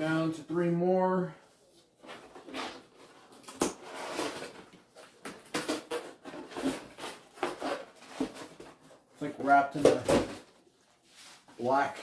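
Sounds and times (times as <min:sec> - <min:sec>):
cardboard and paper rustling: 0:01.8 - 0:11.5.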